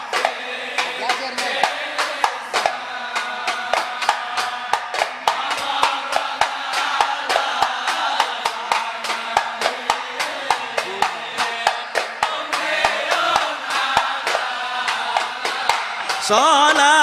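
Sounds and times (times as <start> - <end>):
frame drums beating: 0.0 - 17.0
men chanting faintly: 0.0 - 17.0.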